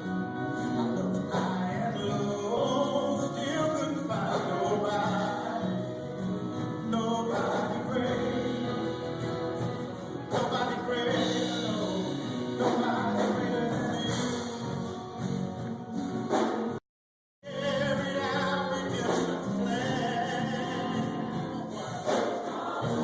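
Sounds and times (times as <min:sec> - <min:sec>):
group singing gospel song: 0:00.8 - 0:15.3, 0:17.5 - 0:23.0.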